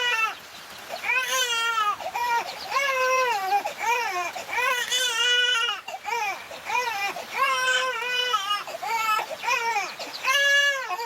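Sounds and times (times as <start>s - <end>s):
young child crying: 1.0s - 11.0s.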